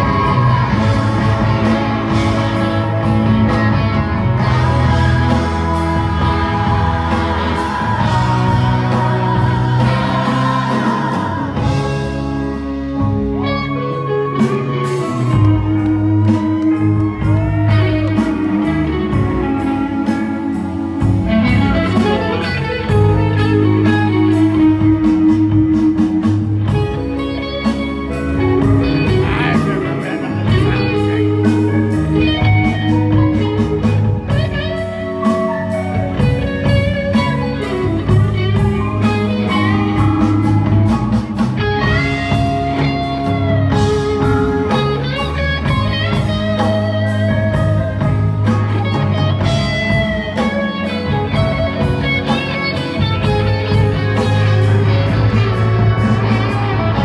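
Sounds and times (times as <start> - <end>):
bass line: 0.0 - 57.0
electric guitar lead: 0.0 - 57.0.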